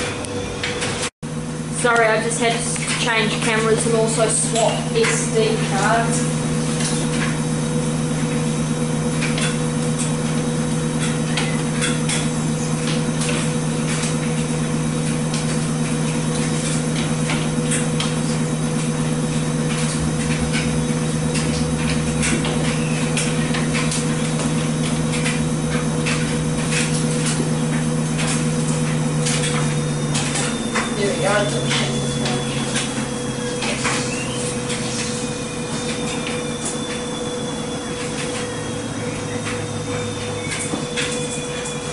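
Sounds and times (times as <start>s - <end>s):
washing machine drum spinning: 0.0s - 41.9s.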